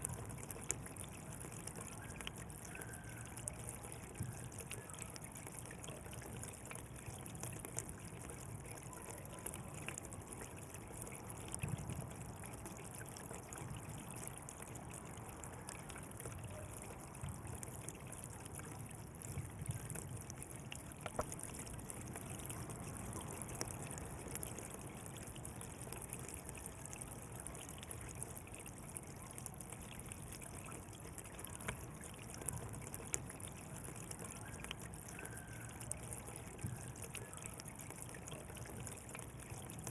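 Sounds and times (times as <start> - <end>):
water dripping: 0.0 - 39.9
water flowing along a channel: 0.0 - 39.9.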